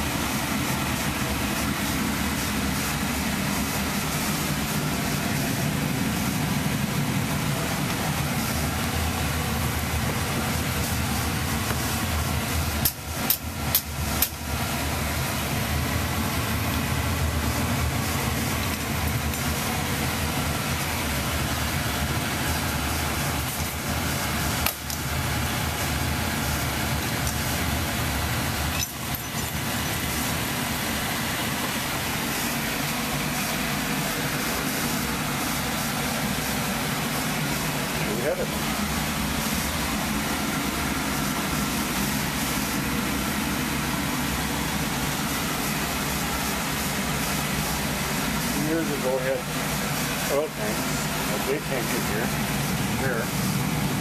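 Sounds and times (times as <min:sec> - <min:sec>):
oil burner rumbling: 0:00.0 - 0:54.0.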